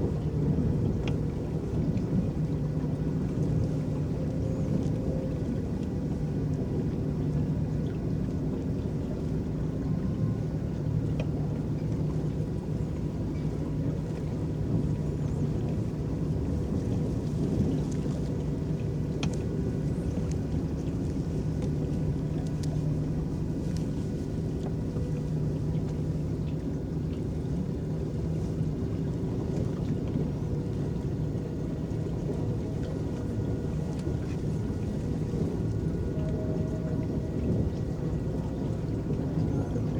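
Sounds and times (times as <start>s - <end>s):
boat motor humming: 0.0s - 39.9s
water washing along hull: 0.0s - 39.9s.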